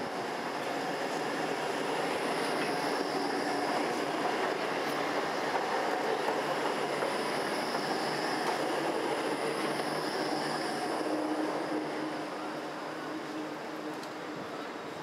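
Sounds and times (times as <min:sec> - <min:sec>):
tram wheels rolling on rail: 0:00.0 - 0:15.0.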